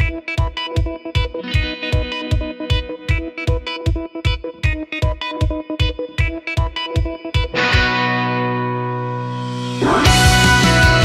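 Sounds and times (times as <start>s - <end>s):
electric guitar chord ringing: 0.0s - 11.0s
rock band playing: 0.0s - 11.0s.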